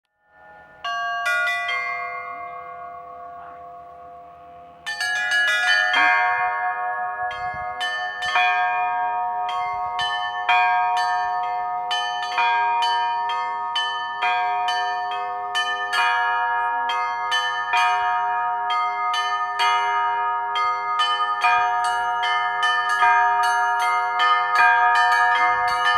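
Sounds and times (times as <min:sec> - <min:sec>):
low chapel bells ringing: 0:00.2 - 0:25.9
small bells struck rapidly: 0:00.3 - 0:25.9.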